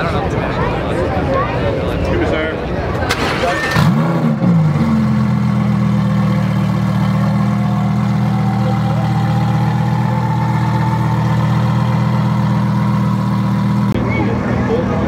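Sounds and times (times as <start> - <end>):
car engine idling: 2.9 - 15.0.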